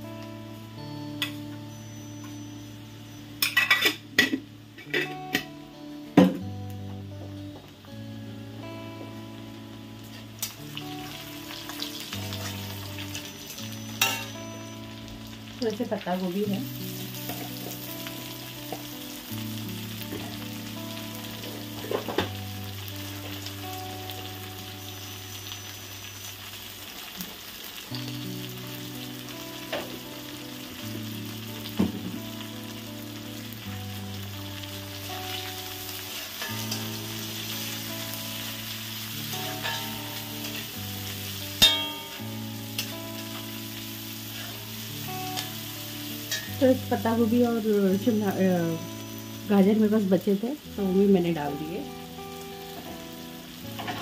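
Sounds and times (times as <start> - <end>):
soft background music: 0.0 - 54.0
vegetables sizzling in oil: 0.0 - 54.0.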